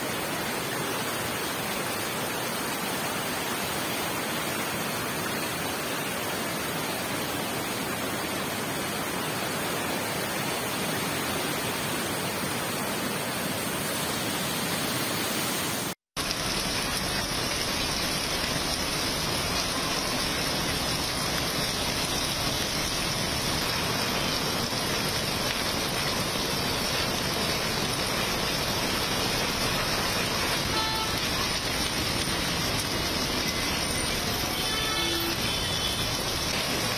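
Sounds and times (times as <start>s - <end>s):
heavy rain on a road: 0.0s - 36.9s
water rushing over rocks: 0.0s - 36.9s.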